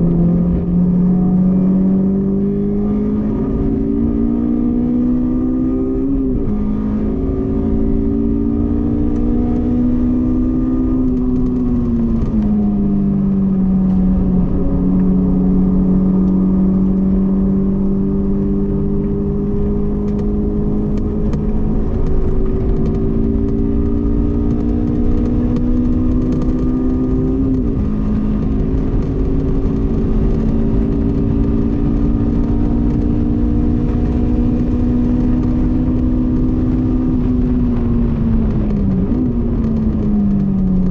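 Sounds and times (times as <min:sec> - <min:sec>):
car engine revving high: 0:00.0 - 0:40.9.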